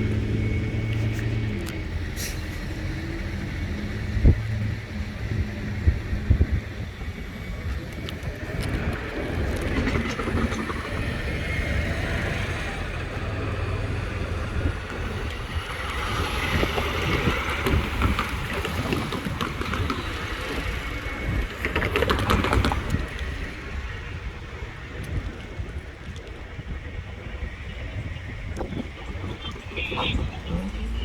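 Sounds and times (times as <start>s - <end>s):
train rumbling and clattering: 0.0s - 31.0s.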